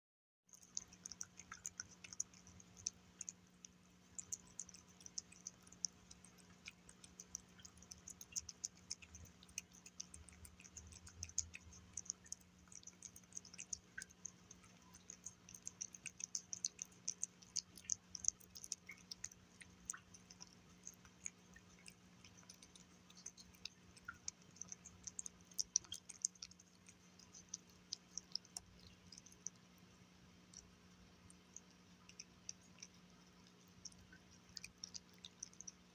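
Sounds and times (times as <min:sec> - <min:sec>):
cat chewing wet food: 0:00.5 - 0:35.9
faint low hum: 0:00.5 - 0:35.9.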